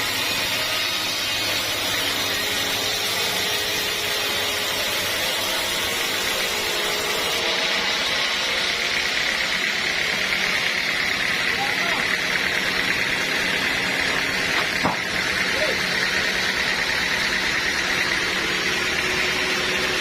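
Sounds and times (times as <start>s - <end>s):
sawmill saw cutting a log: 0.0s - 20.0s.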